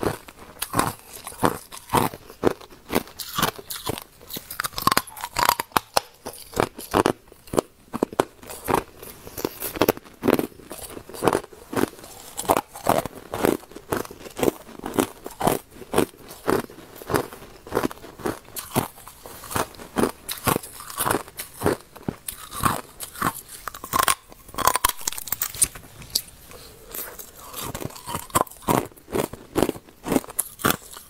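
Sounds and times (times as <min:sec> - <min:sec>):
ice being chewed: 0:00.0 - 0:31.0.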